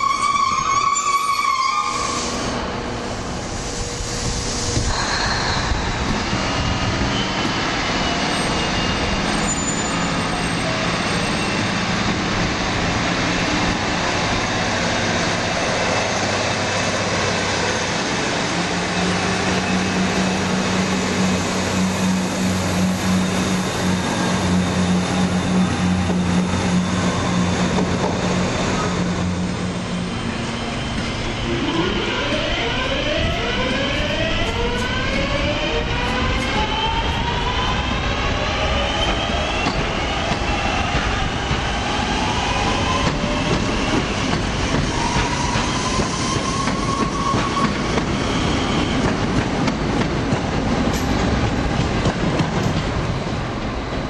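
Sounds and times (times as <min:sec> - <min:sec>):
diesel train engines droning: 0:00.0 - 0:54.0
electric train whine: 0:00.0 - 0:54.0.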